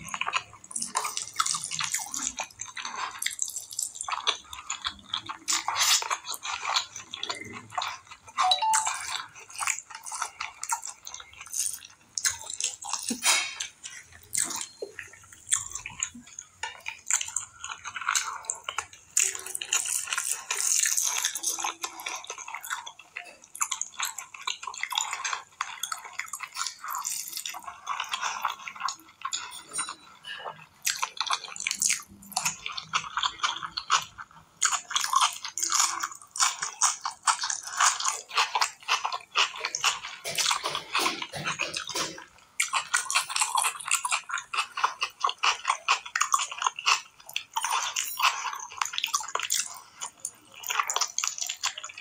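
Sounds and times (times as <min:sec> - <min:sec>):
wet chewing and smacking: 0:00.0 - 0:52.0.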